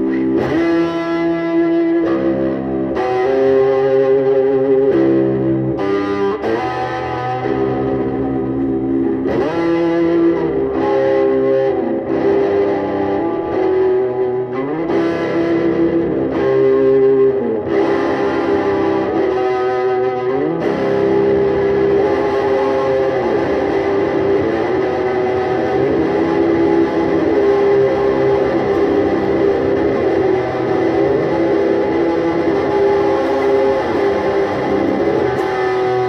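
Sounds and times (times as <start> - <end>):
electric guitar solo: 0.0 - 36.0.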